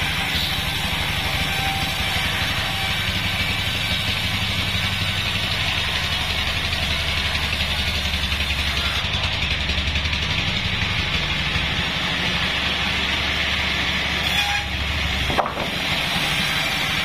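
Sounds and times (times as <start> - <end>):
sawmill drive droning: 0.0 - 17.0.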